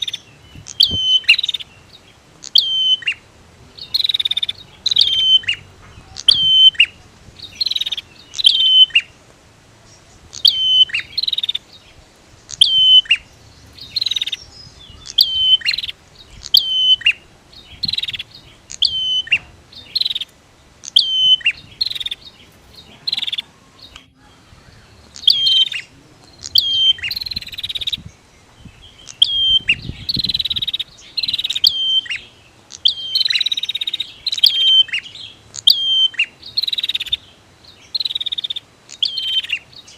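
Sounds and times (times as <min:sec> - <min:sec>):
birds chirping high notes: 0:00.0 - 0:39.9
buzzy rattling bird calls: 0:00.0 - 0:39.9.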